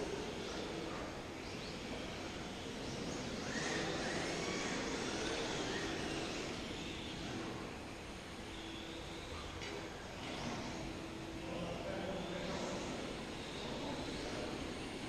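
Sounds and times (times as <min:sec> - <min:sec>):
rc car motor whining: 0:00.0 - 0:15.0.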